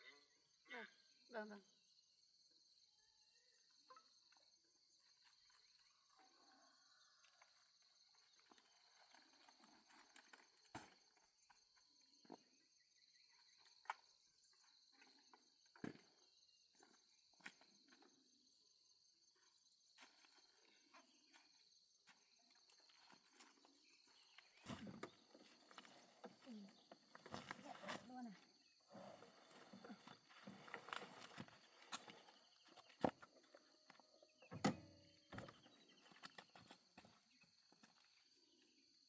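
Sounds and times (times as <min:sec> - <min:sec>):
crickets chirring: 0:00.1 - 0:39.0.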